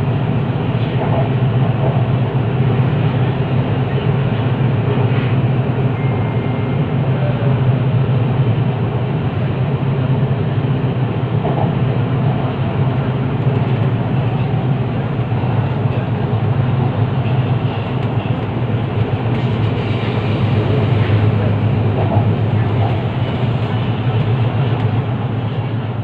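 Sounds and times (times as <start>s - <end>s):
train rumbling inside carriage: 0.0s - 26.0s.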